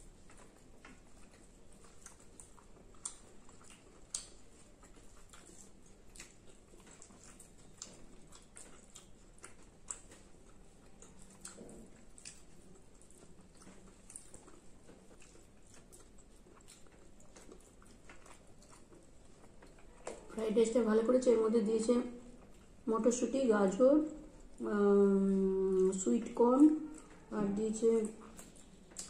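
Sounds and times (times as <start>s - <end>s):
people chewing food: 0.0s - 29.0s.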